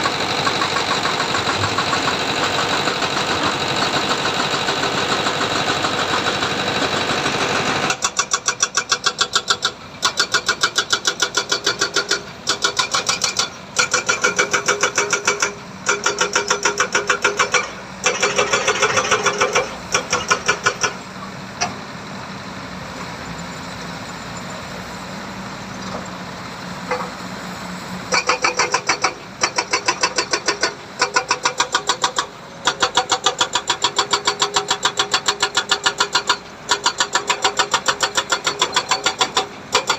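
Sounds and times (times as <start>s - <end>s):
diesel engine pulsing clatter: 0.0s - 39.9s.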